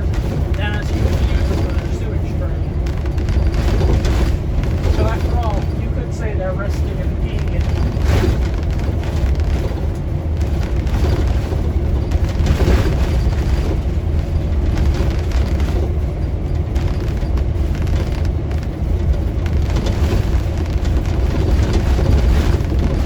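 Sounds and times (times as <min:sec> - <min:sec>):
car road noise: 0:00.0 - 0:23.0.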